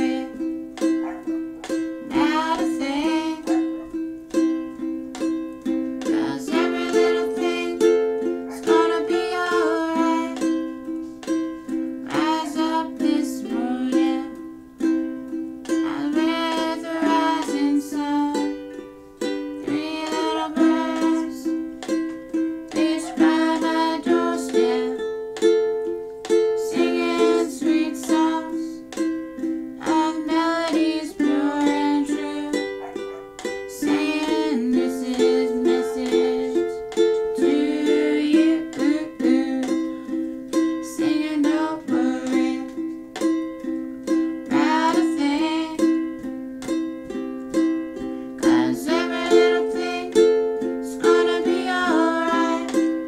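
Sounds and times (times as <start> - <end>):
ukulele strumming: 0.0 - 53.0.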